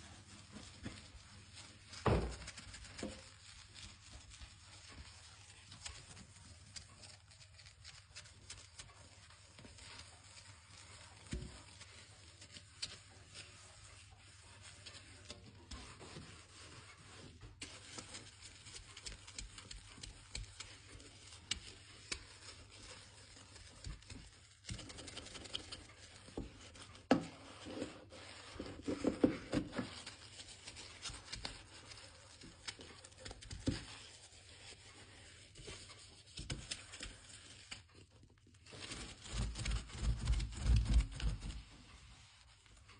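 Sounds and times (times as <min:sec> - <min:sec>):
hands rubbing and scrubbing: 0:00.0 - 0:42.9.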